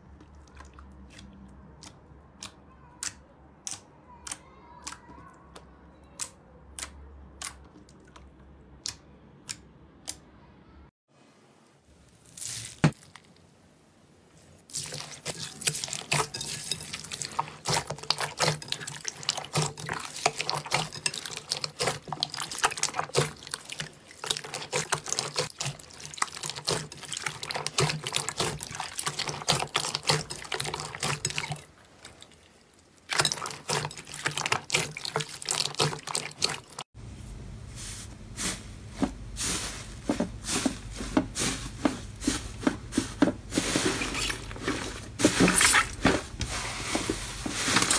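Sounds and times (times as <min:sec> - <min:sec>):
hands squishing slime: 0:00.0 - 0:10.2, 0:14.7 - 0:36.8, 0:39.5 - 0:47.9.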